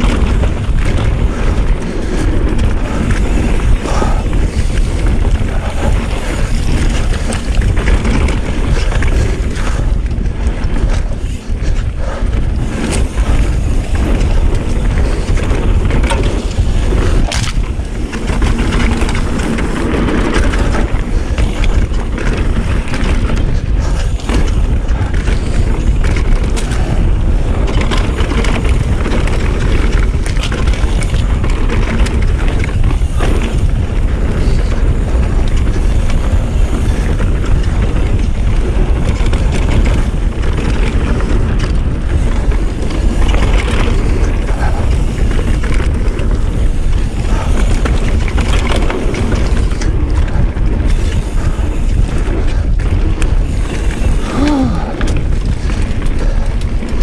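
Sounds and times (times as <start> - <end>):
bike knocks and rattles: 0.0 - 57.0
tyres rolling over dirt: 0.0 - 57.0
wind buffeting microphone: 0.0 - 57.0.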